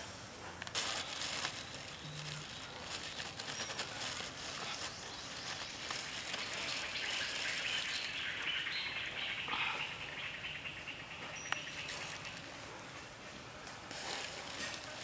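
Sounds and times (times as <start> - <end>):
birds chirping: 0.9 - 13.6.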